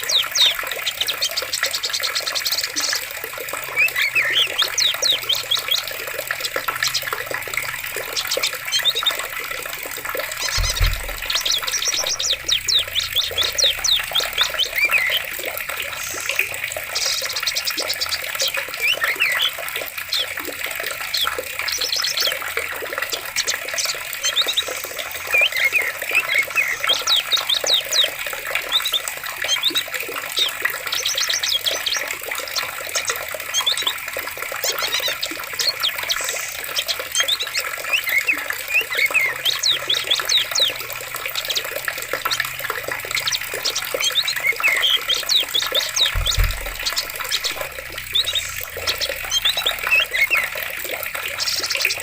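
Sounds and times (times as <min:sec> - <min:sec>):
birds chirping and trilling: 0:00.0 - 0:52.0
running water: 0:00.0 - 0:52.0.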